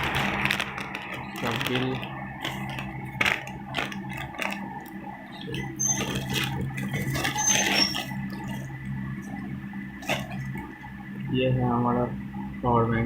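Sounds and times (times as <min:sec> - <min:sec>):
paper and cardboard rustling: 0:00.0 - 0:10.8
low electrical hum: 0:00.0 - 0:13.0.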